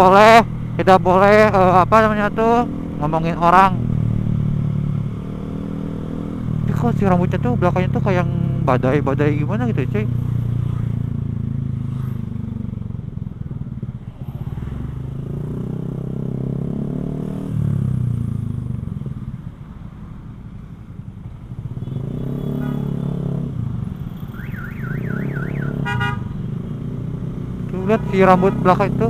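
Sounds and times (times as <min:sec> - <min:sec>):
motorcycle engine revving: 0:00.0 - 0:19.4, 0:21.3 - 0:29.0.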